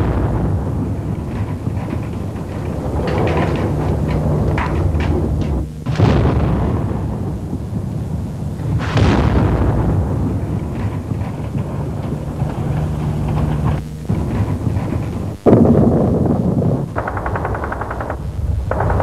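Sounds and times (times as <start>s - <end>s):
artillery explosions: 0.0s - 19.0s
continuous low rumble: 0.0s - 19.0s.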